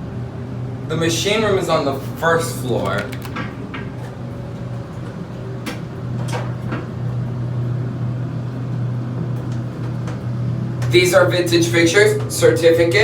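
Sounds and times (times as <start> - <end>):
elevator humming: 0.0 - 13.0.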